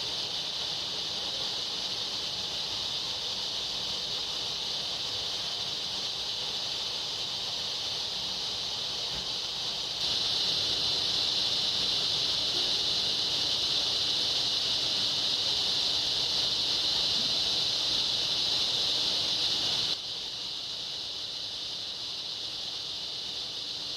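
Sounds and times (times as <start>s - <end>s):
insects buzzing: 0.0s - 23.9s.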